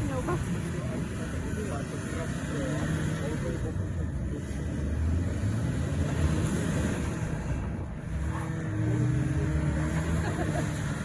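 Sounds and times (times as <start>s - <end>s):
engines revving: 0.0s - 11.0s
wheels spinning in snow: 0.0s - 11.0s.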